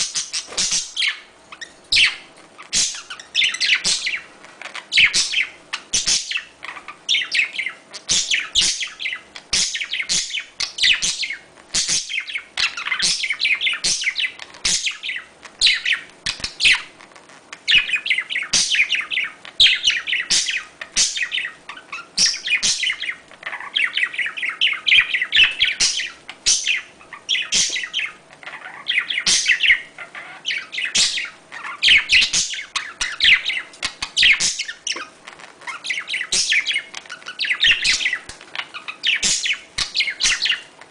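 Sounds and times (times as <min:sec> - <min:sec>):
budgerigars chirping and warbling: 0:00.0 - 0:40.9.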